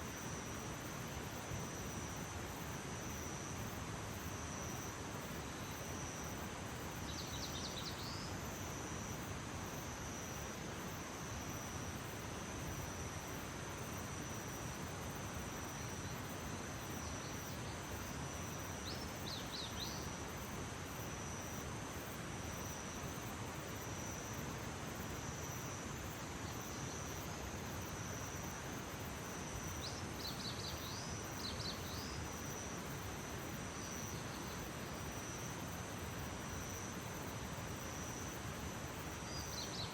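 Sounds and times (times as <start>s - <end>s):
constant hiss: 0.0s - 39.9s
crickets trilling: 0.0s - 39.9s.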